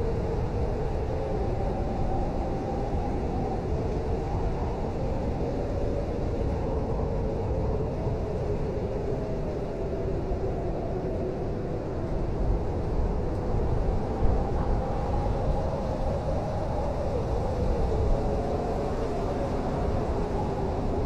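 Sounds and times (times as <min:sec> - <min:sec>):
blizzard wind howling: 0:00.0 - 0:21.0.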